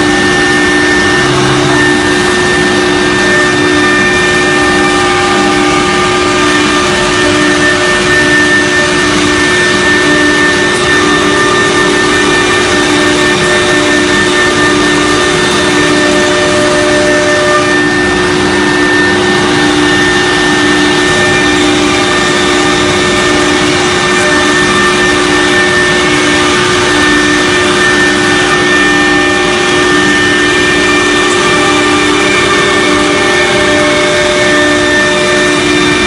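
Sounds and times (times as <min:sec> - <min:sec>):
router spindle whining: 0:00.0 - 0:36.0.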